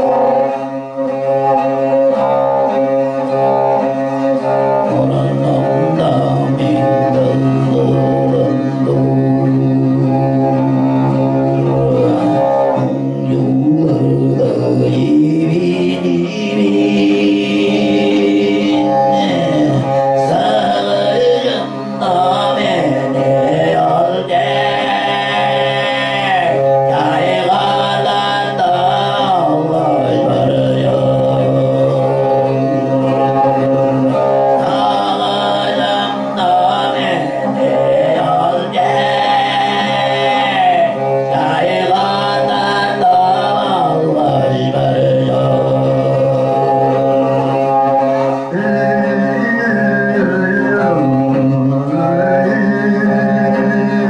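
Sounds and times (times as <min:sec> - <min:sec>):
bowed fiddle: 0:00.0 - 0:54.0
man throat singing: 0:04.8 - 0:54.0.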